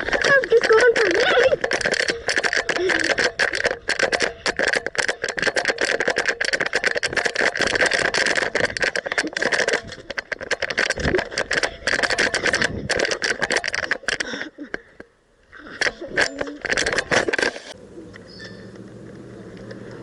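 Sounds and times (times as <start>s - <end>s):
fast mechanical rattling: 0.0s - 14.5s, 15.7s - 17.8s.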